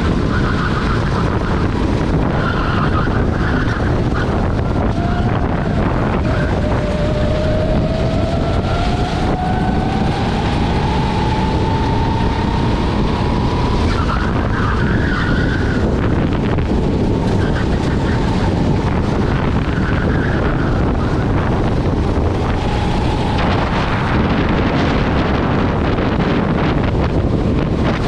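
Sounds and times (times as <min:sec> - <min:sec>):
kart engine accelerating: 0:00.0 - 0:28.0
wind and road noise: 0:00.0 - 0:28.0.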